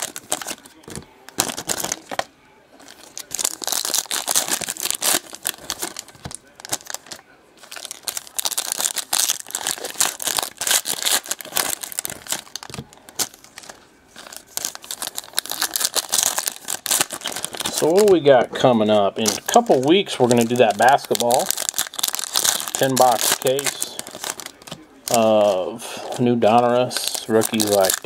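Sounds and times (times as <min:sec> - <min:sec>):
card packs crinkling and tearing: 0:00.0 - 0:28.0.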